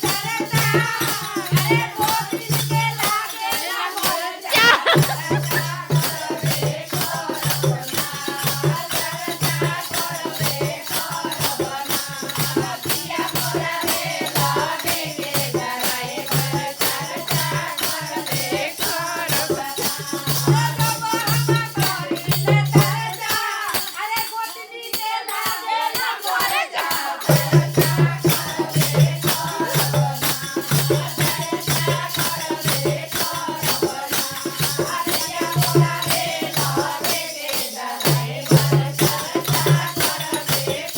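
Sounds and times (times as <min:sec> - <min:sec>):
shaker rhythm: 0:00.0 - 0:40.9
voices singing devotional song: 0:00.0 - 0:40.9.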